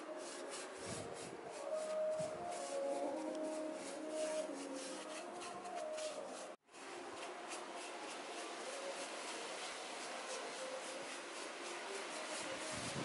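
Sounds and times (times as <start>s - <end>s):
brush rubbing on cement: 0.0s - 13.0s
steady background hiss: 0.0s - 13.0s.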